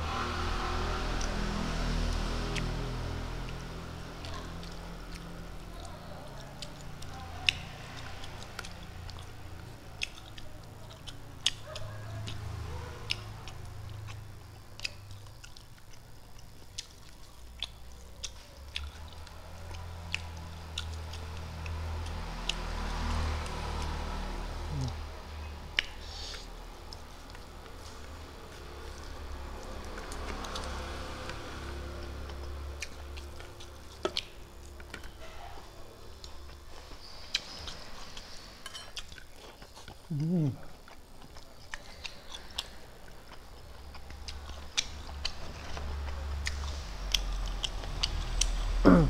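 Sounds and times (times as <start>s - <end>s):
person chewing: 1.1s - 25.1s, 25.7s - 49.0s.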